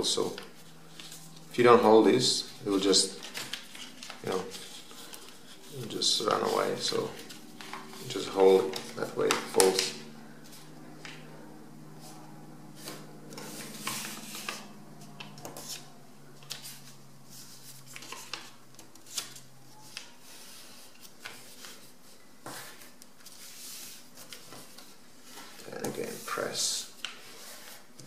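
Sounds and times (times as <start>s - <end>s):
paper being folded and creased: 0.0s - 1.6s, 2.4s - 11.3s, 12.8s - 28.0s
low steady hum: 0.0s - 28.0s.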